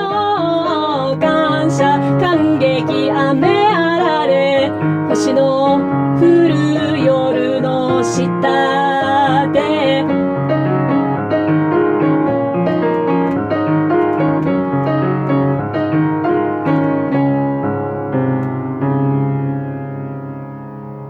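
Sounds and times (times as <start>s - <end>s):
solo piano: 0.0s - 21.0s.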